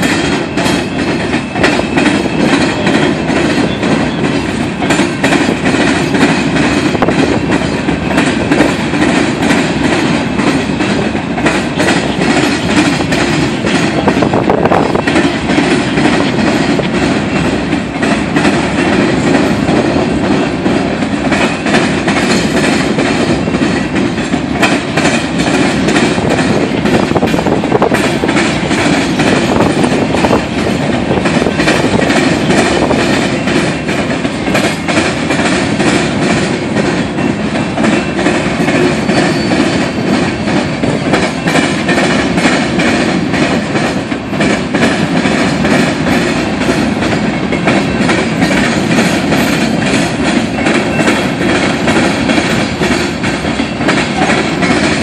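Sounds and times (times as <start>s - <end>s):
freight train rumbling past: 0.0s - 55.0s
wheels clicking over rail joints: 0.0s - 55.0s.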